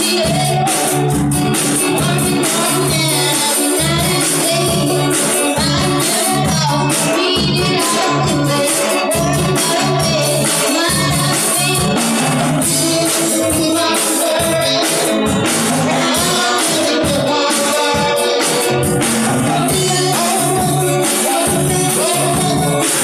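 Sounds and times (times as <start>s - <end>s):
live rock band playing: 0.0s - 23.0s
woman singing into microphone: 0.0s - 23.0s.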